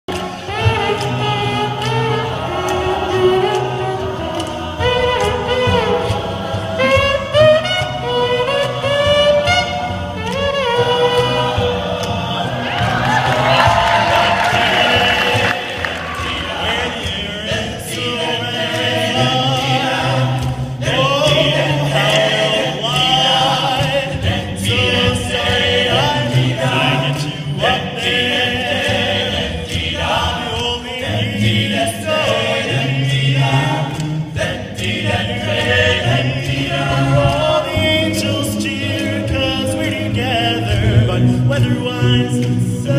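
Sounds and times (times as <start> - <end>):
a cappella group singing in harmony: 0.0 - 42.9.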